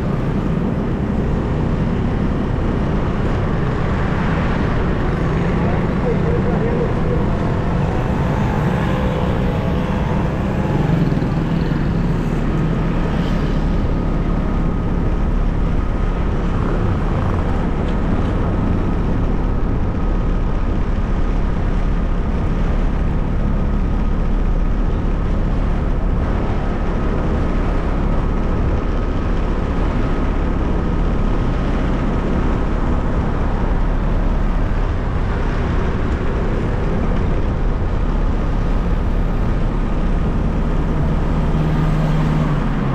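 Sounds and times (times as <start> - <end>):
vehicle rumbling: 0.0 - 42.9.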